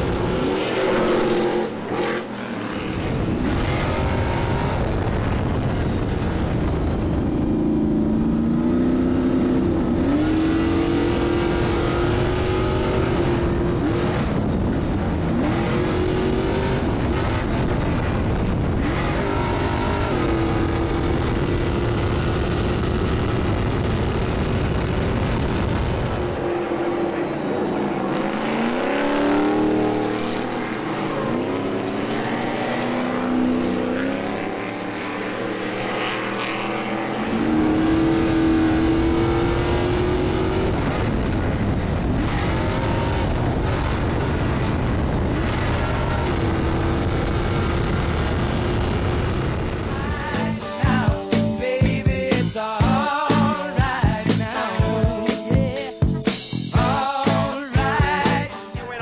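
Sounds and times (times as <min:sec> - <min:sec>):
trucks passing on track: 0:00.0 - 0:51.6
racing truck engine revving: 0:00.0 - 0:53.6.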